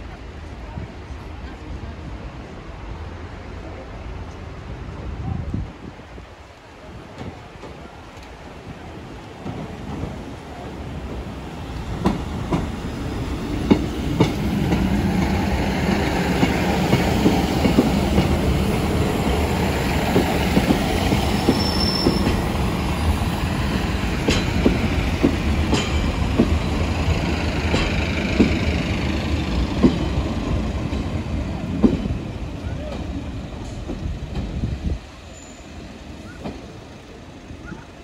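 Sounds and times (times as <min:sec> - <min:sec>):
diesel train passing: 0:00.0 - 0:38.0.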